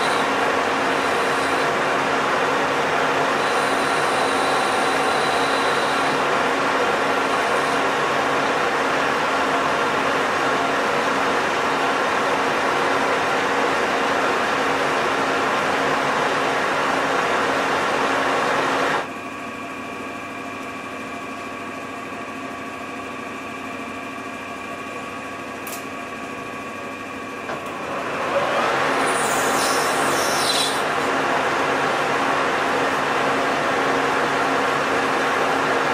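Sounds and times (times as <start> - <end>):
lathe running: 0.0 - 22.2, 22.9 - 35.9.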